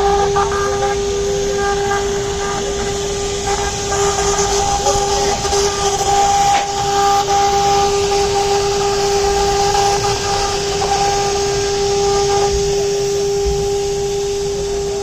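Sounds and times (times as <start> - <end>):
router spindle whining: 0.0 - 15.0.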